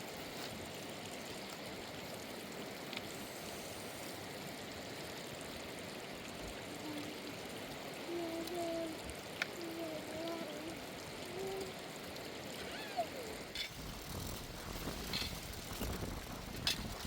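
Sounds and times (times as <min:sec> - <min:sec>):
river rushing: 0:00.0 - 0:16.3.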